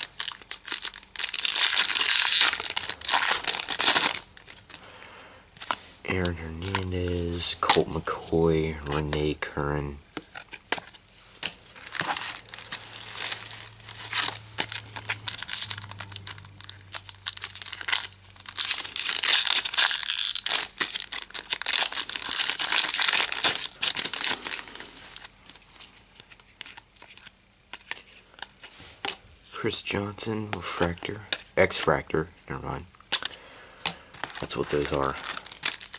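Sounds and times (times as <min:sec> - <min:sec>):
cards being handled: 0:00.0 - 0:29.2, 0:33.1 - 0:35.9
foil wrapper crinkling and tearing: 0:00.0 - 0:29.2, 0:33.1 - 0:35.9.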